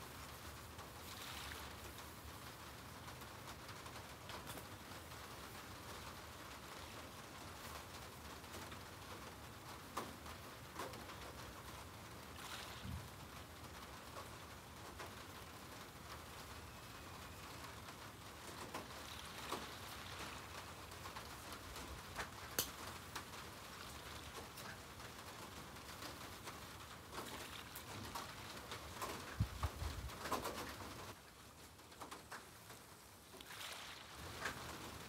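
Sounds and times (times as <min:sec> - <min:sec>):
crackles and pops: 0:00.8 - 0:11.6, 0:12.2 - 0:35.0.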